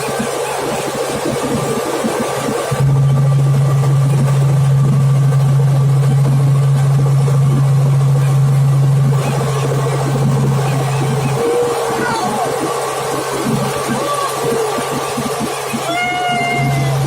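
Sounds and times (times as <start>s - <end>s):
helicopter drone: 0.0s - 17.0s.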